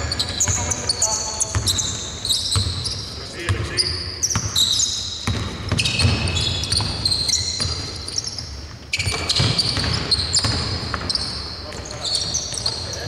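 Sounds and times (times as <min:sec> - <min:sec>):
sneakers squeaking on hardwood: 0:00.0 - 0:13.0
basketball bouncing on floor: 0:01.5 - 0:01.9, 0:02.5 - 0:12.8.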